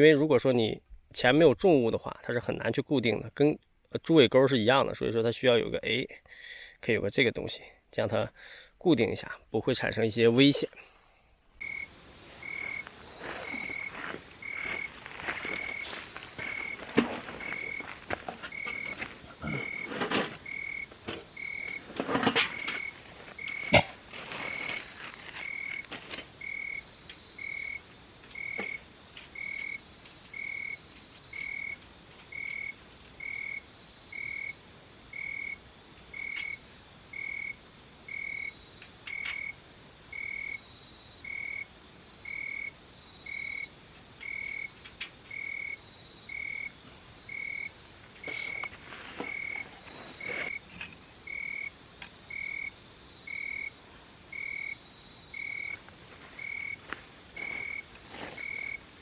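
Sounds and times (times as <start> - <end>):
frogs calling: 11.6 - 59.0.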